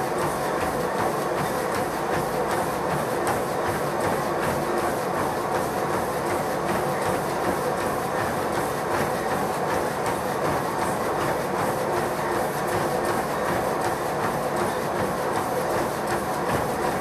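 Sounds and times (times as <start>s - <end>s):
treadmill motor hum: 0.0s - 17.0s.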